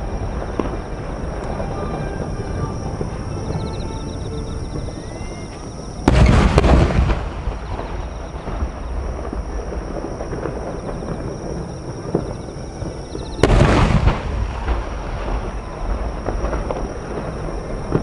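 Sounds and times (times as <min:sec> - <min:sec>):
firework shells booming: 0:00.0 - 0:18.0.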